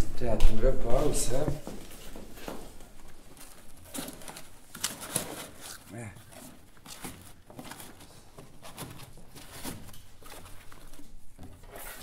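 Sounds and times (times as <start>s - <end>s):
cardboard rustling and scraping: 0.9s - 12.0s.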